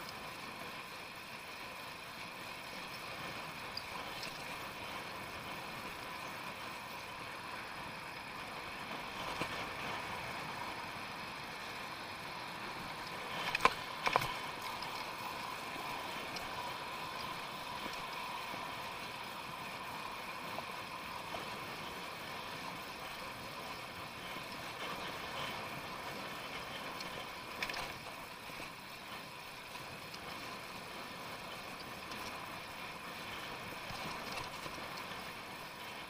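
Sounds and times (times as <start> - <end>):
bicycle rolling on paved road: 0.0 - 36.0.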